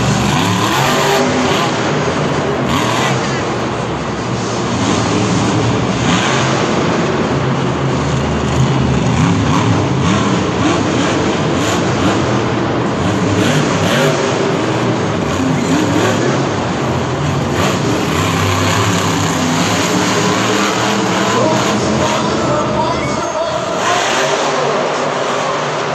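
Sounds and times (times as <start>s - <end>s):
monster truck engine revving: 0.0s - 25.9s.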